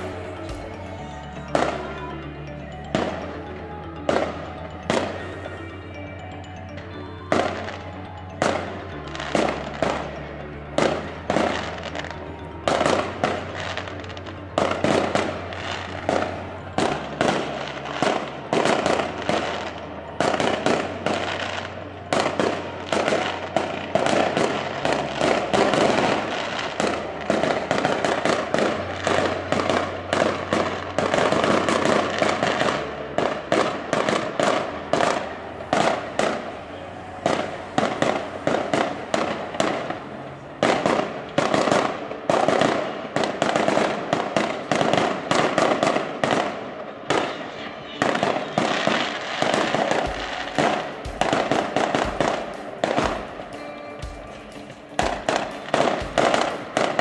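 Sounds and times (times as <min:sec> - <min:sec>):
fireworks bangs and crackles: 0:08.5 - 0:36.6, 0:37.2 - 0:57.0.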